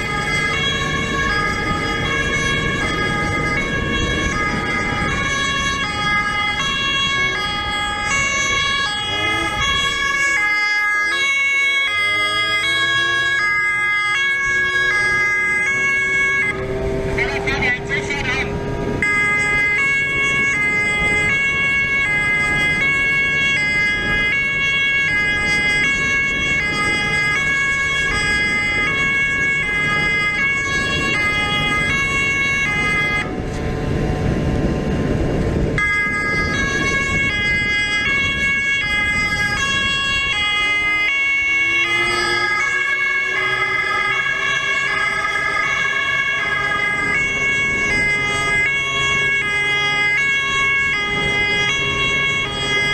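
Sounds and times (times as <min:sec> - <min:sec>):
two-tone emergency siren: 0:00.0 - 0:52.9
vehicle engine running: 0:00.0 - 0:52.9.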